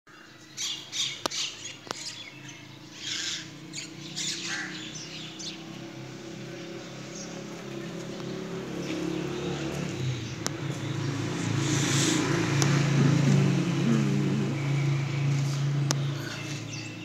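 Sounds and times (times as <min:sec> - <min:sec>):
vehicle engine running: 0:03.3 - 0:17.0.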